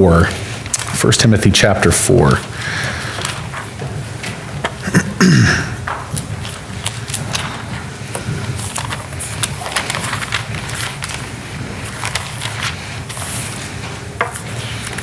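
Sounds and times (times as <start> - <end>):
book pages rustling: 2.0 - 4.9, 5.8 - 15.0.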